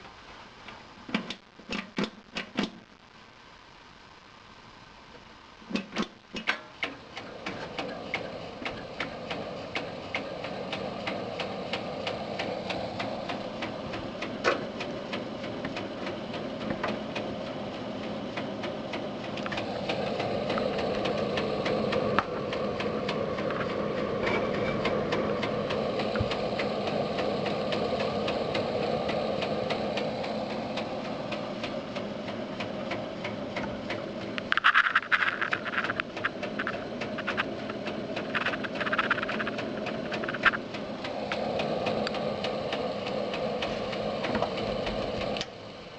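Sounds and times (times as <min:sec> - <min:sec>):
computer fan whirring: 0:00.0 - 0:45.9.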